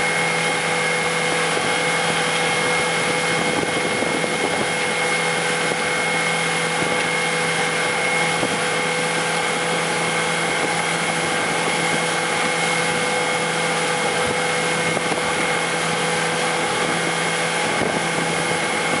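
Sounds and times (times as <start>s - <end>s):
churning wake water: 0.0s - 19.0s
motorboat engine droning: 0.0s - 19.0s.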